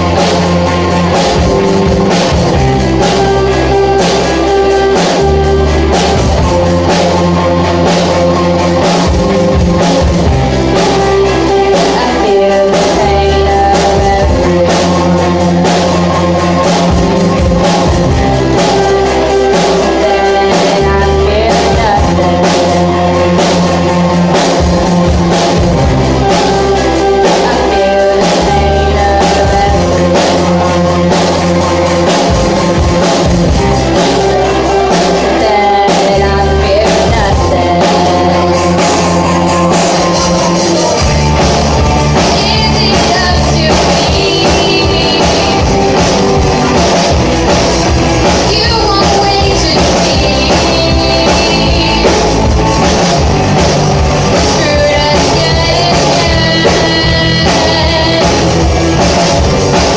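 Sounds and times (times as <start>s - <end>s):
bass guitar: 0.0s - 59.9s
drum kit: 0.0s - 59.9s
electric guitar: 0.0s - 59.9s
person singing: 0.0s - 59.9s.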